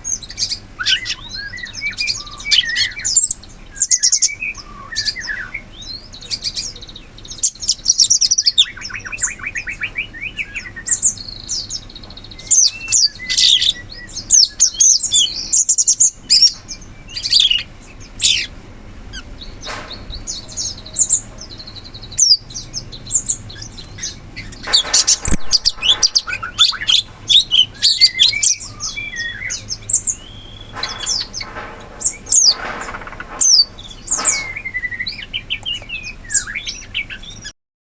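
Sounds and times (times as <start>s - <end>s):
songbird chirping and trilling: 0.0s - 37.6s.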